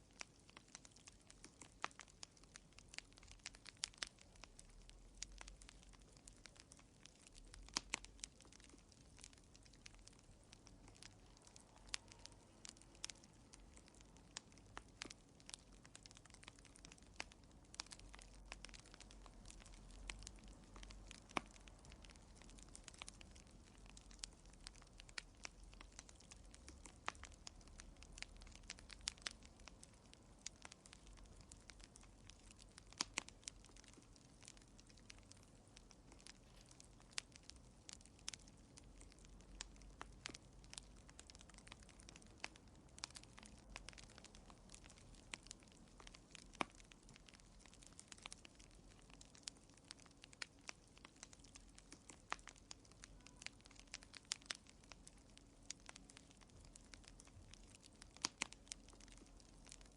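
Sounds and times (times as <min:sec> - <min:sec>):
wood fire crackling: 0:00.0 - 0:59.9
low rumble of flames: 0:00.1 - 0:59.9.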